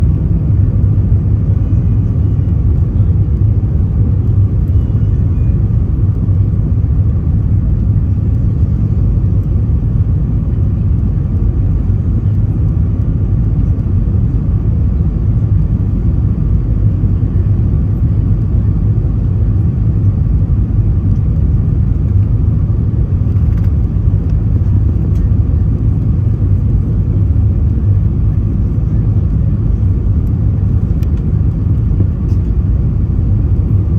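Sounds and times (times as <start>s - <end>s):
airliner engine rumble: 0.0s - 33.9s.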